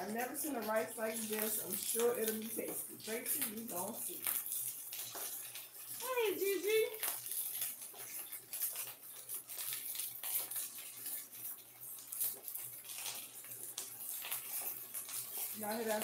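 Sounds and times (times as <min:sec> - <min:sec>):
patties sizzling in hot oil: 0:00.0 - 0:16.0.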